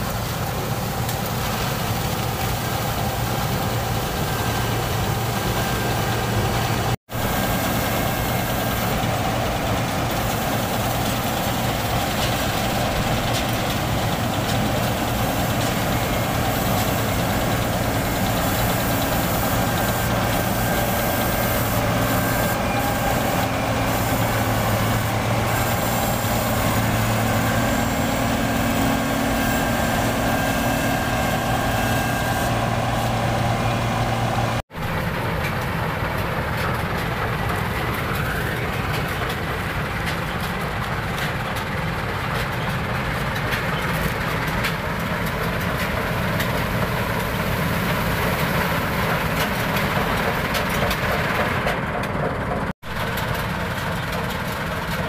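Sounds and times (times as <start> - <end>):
combine harvester engine drone: 0.0 - 55.0
machinery noise: 0.0 - 55.0.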